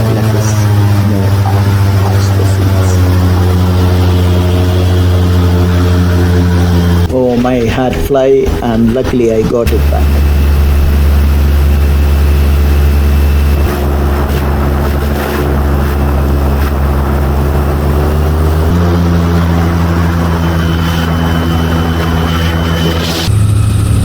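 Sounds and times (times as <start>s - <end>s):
airboat engine and propeller drone: 0.0s - 24.0s.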